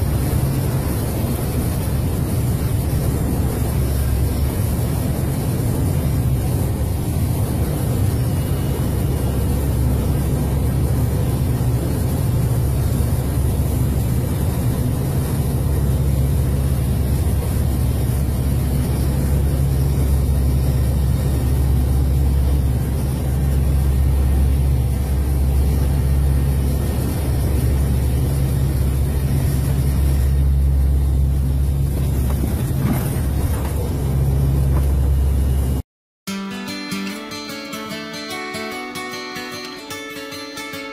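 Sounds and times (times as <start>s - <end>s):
aircraft engines droning: 0.0s - 35.8s.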